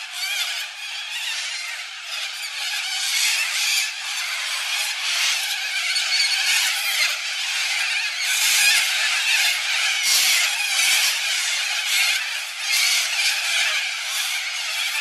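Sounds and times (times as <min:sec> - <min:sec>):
flock of birds screeching: 0:00.0 - 0:15.0.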